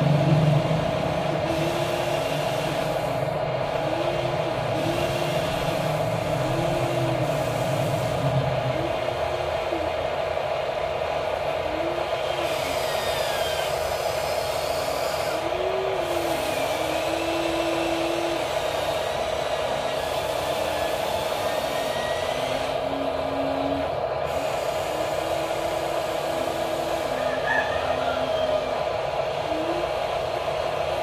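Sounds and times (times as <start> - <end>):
steady hum: 0.0 - 31.0
toy excavator motors whining: 1.2 - 9.9, 11.4 - 31.0.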